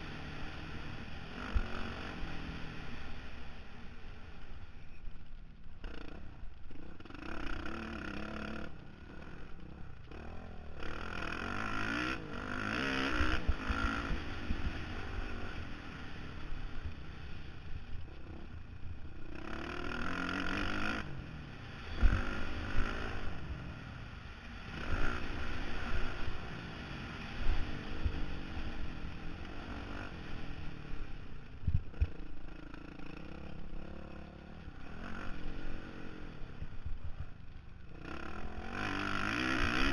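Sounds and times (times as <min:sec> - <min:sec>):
motocross engine revving: 0:00.0 - 0:03.3, 0:05.8 - 0:31.2, 0:31.9 - 0:37.0, 0:37.9 - 0:39.9.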